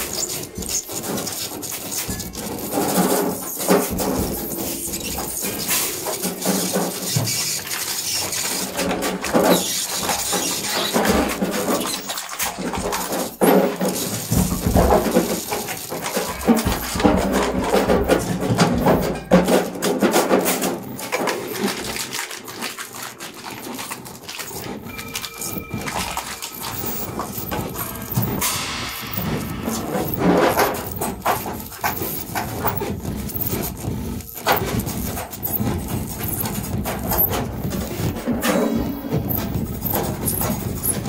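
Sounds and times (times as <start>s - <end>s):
experimental improvised music: 0.0s - 41.0s.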